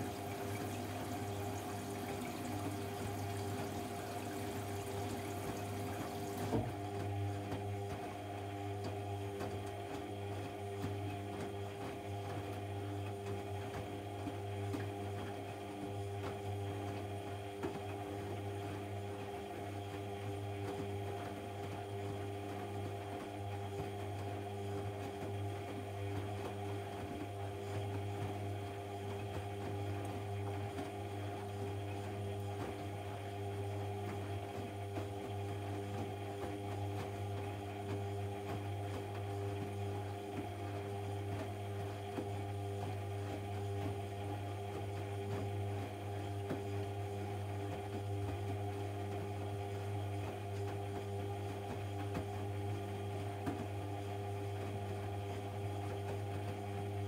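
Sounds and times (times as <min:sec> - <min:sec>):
washing machine humming: 0:00.0 - 0:57.0.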